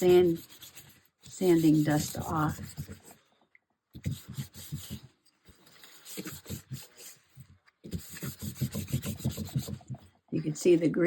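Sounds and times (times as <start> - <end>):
paper towel rubbing plastic cover: 0.0 - 3.1, 4.0 - 10.0.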